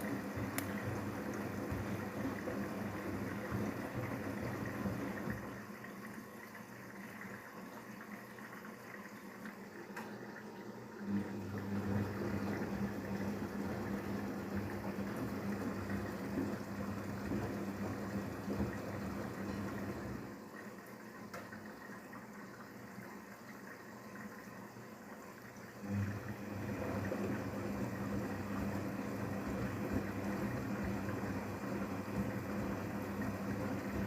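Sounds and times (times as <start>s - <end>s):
washing machine motor hum: 0.0s - 34.0s
water sloshing in washing machine: 0.0s - 34.0s.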